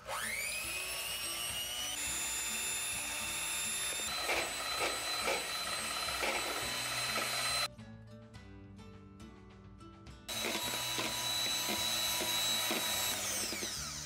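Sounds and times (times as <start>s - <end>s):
electric mixer whining: 0.0s - 7.7s, 10.3s - 14.0s.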